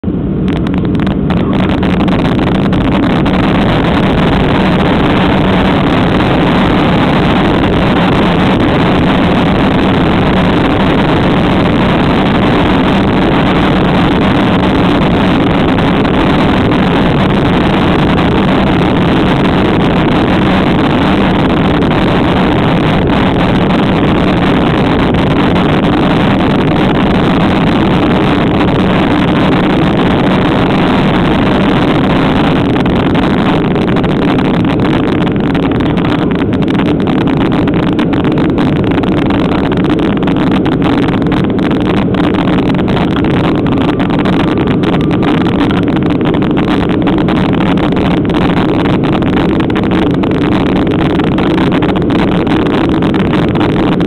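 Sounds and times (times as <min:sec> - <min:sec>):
jet engines at takeoff thrust: 0:00.0 - 0:54.0
wheels rumbling on runway: 0:00.0 - 0:54.0.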